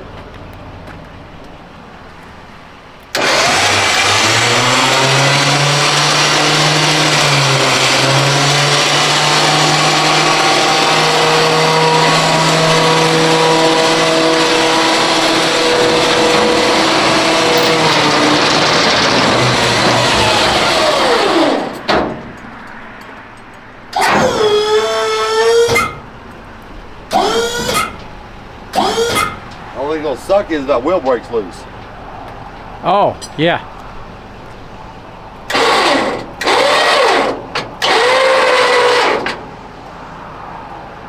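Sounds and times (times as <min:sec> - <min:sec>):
winch motor whining: 0:03.1 - 0:22.0, 0:23.9 - 0:32.9, 0:33.8 - 0:40.0.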